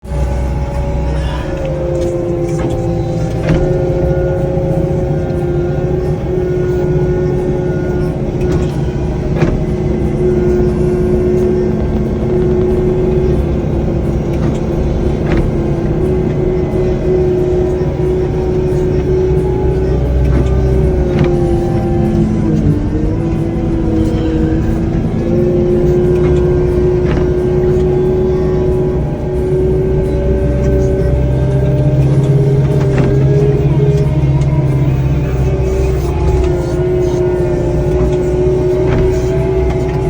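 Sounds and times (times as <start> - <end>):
diesel engine under heavy load: 0.0 - 40.0.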